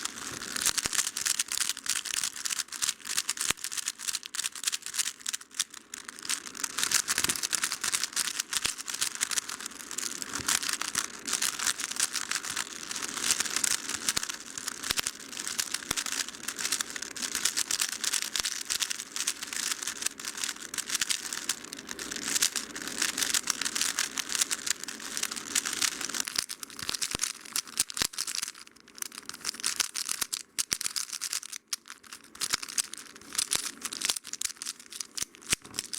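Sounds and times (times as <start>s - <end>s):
puzzle cube clicking: 0.1s - 35.9s.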